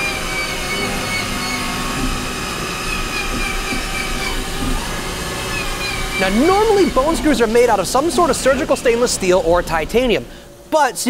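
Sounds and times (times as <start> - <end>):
coolant spraying hiss: 0.0 - 11.0
lathe whine: 0.0 - 11.0.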